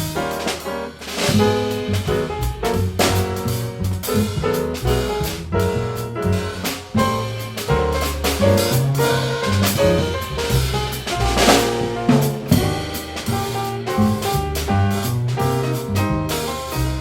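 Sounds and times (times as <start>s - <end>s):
jazz combo playing: 0.0s - 17.0s
snare and bass drum strokes: 0.0s - 17.0s
bass line: 1.1s - 17.0s.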